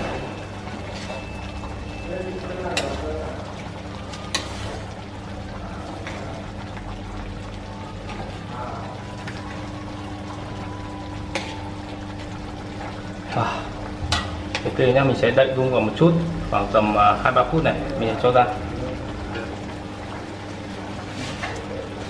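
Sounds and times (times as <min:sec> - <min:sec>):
sauce simmering in a wok: 0:00.0 - 0:22.0.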